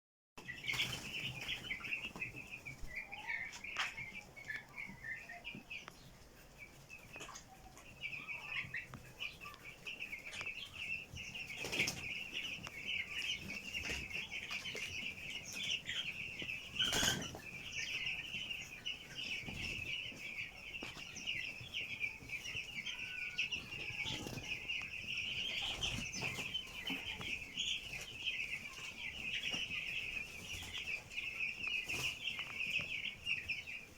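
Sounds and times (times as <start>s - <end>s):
chicks peeping: 0.4s - 33.9s.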